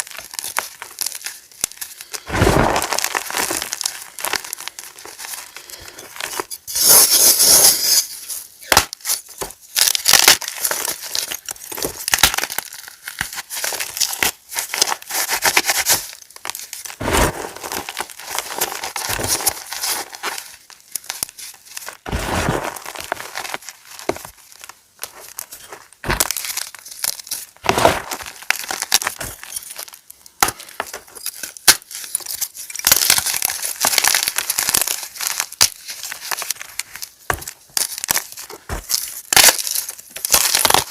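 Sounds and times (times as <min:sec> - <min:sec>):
chalk crunching: 0:00.0 - 0:40.9.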